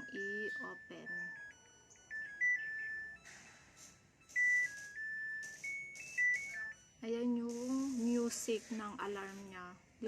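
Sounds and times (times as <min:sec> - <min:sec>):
washing machine buzzer melody: 0:00.0 - 0:09.9.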